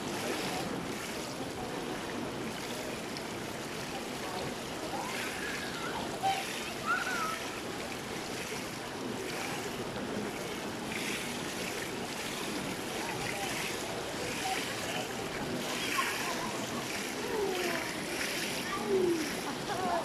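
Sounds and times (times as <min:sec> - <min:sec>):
distant voices: 0:00.0 - 0:20.0
pool water lapping: 0:00.0 - 0:20.0.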